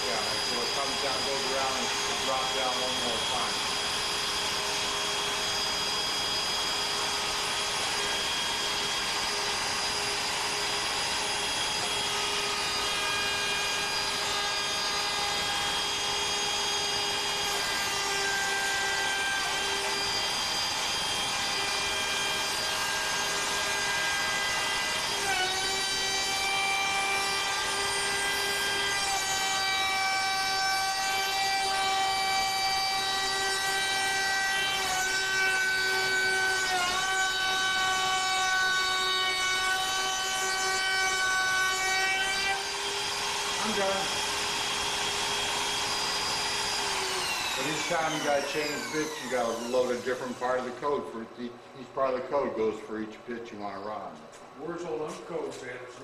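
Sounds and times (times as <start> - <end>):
router bit cutting wood: 0.0 - 51.1
router spindle whine: 0.0 - 51.5.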